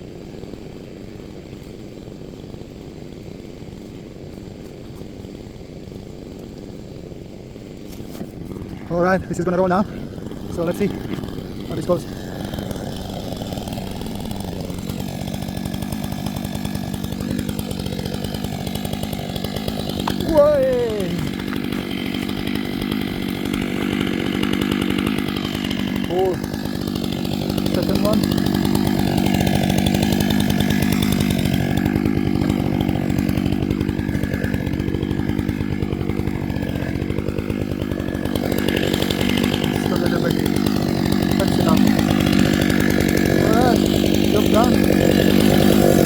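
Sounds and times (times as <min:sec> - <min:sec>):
chainsaw engine running: 0:00.0 - 0:46.0.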